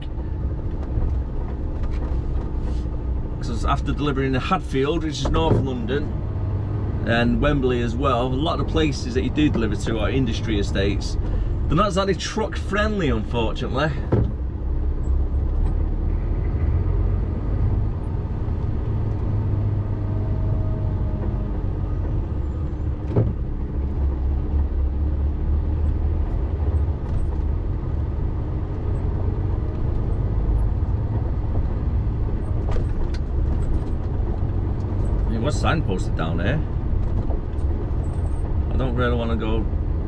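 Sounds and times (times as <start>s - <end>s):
lorry engine and road rumble: 0.0s - 40.0s.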